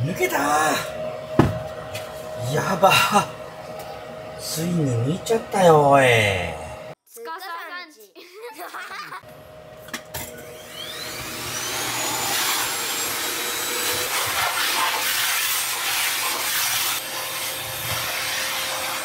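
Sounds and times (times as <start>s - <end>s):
vacuum cleaner motor whine: 0.0s - 7.0s, 9.2s - 19.0s.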